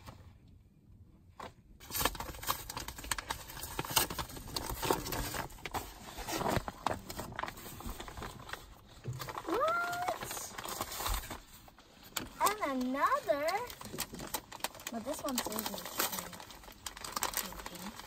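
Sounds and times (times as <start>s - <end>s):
paper envelope tearing and crinkling: 1.8s - 18.0s.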